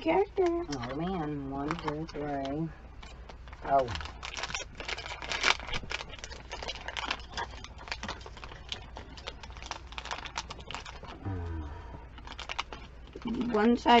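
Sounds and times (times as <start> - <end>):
plastic packet crinkling and tearing: 0.4 - 11.2, 12.1 - 14.0.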